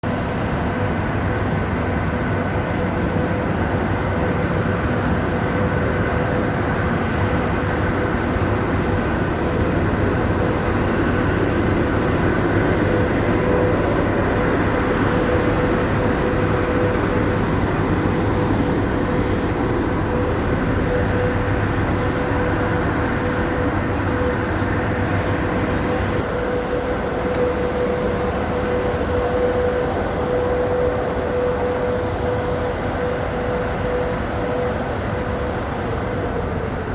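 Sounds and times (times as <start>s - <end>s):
diesel train running: 0.0s - 36.9s
mid-pitched hum: 3.0s - 36.9s.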